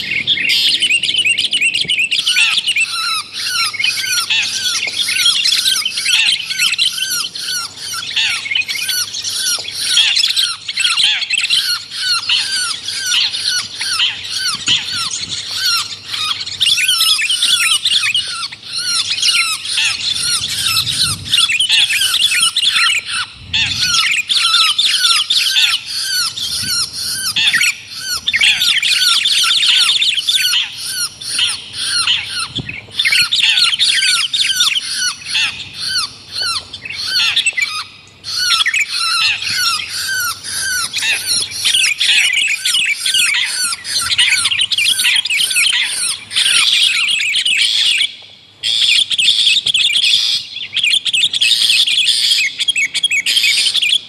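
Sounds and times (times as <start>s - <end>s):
bird chatter: 0.0s - 54.0s
harsh bird calls: 0.0s - 54.0s.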